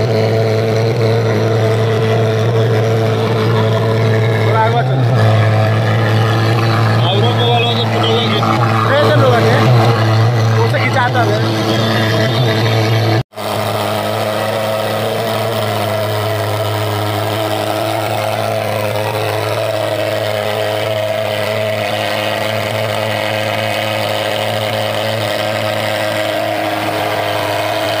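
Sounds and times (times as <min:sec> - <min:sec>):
fogging machine buzzing drone: 0:00.0 - 0:28.0.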